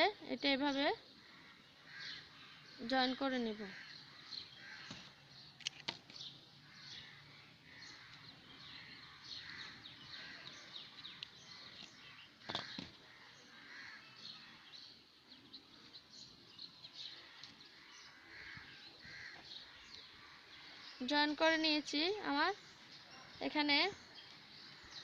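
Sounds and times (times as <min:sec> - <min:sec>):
birds calling and chirping: 0:00.0 - 0:25.0.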